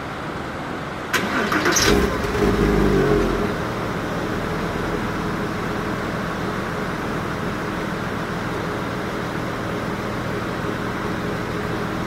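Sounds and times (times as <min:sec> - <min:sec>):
car engine idling: 0:00.1 - 0:12.0.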